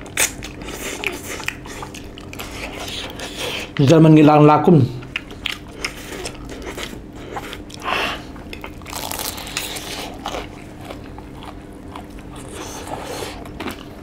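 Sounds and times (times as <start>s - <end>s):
chewing: 0.0s - 3.9s, 5.0s - 14.0s.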